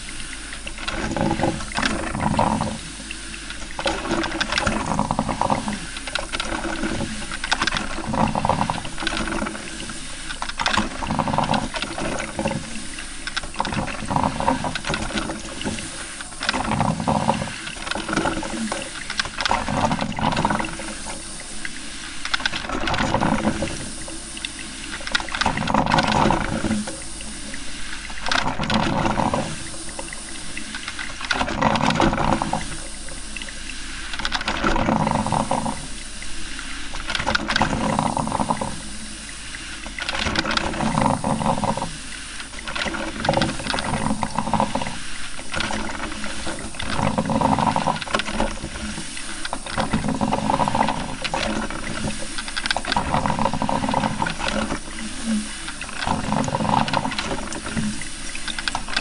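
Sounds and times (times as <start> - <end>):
coffee maker brewing: 0.0 - 33.4, 34.1 - 36.0, 36.9 - 42.0, 42.6 - 59.0.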